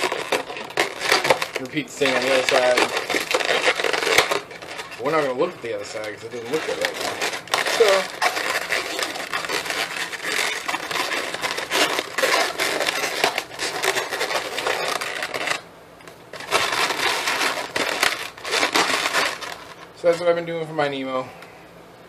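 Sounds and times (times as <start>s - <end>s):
balloons squeaking and crackling: 0.0s - 20.4s.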